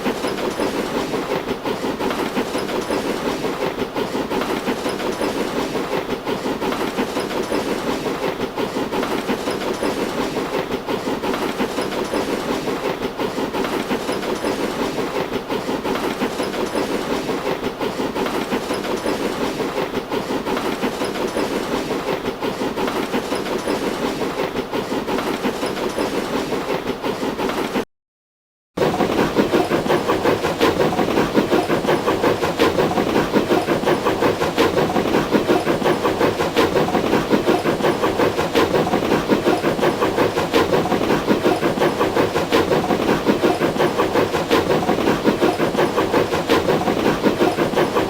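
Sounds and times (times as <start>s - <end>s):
train rail clatter: 0.0s - 27.8s, 28.8s - 48.0s.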